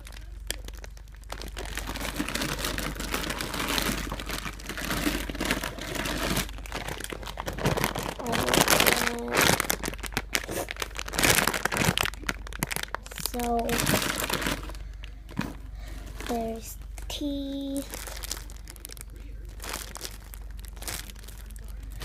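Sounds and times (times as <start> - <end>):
squishy toys crinkling and rustling: 0.0 - 22.0.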